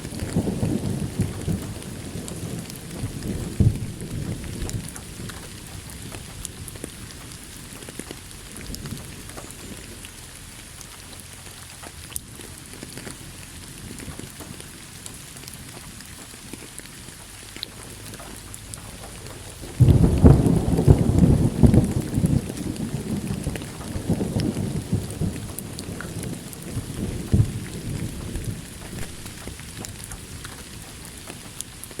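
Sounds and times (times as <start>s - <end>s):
steady rain falling: 0.0s - 32.0s
thunder crack and rumble: 0.0s - 32.0s.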